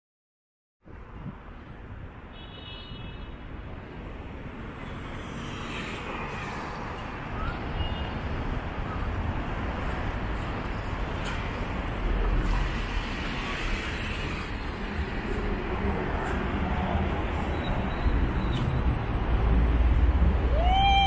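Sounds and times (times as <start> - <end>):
road traffic passing: 3.4 - 21.0.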